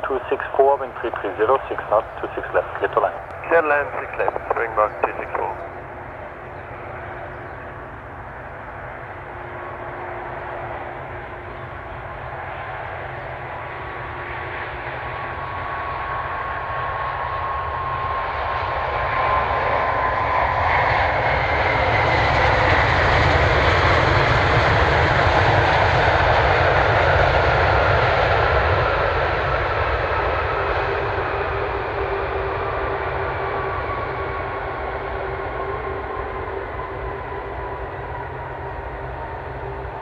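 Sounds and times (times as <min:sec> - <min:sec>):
jet engines passing by: 0:00.0 - 0:40.0.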